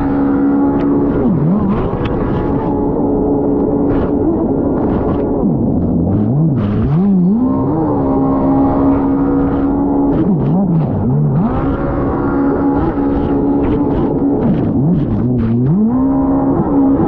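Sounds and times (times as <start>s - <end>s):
watercraft engine revving: 0.0s - 17.0s.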